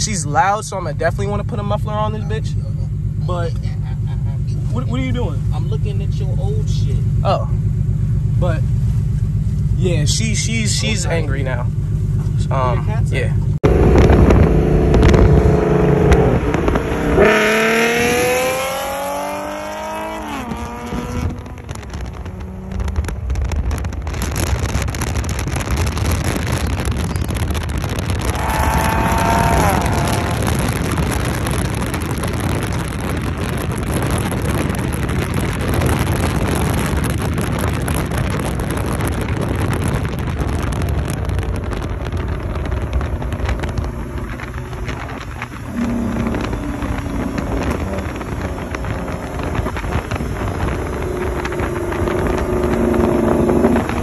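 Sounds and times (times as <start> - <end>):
loud car engine revving: 10.0 - 54.0.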